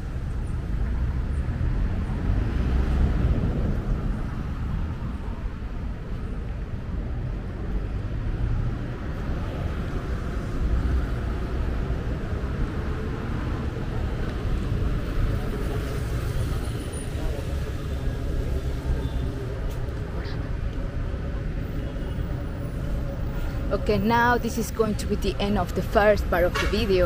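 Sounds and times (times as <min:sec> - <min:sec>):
passing cars rumbling: 0:00.0 - 0:27.0.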